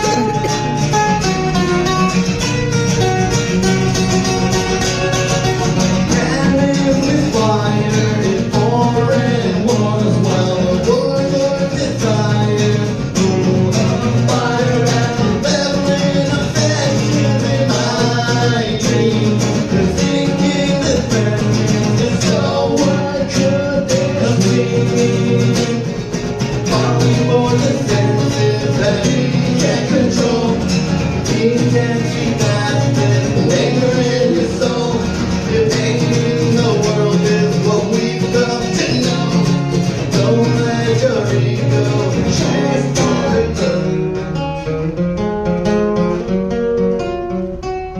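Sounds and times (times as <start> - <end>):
person singing: 0.0 - 1.2, 6.0 - 26.0, 26.6 - 44.1
live band playing: 0.0 - 43.8
guitar: 0.0 - 47.9.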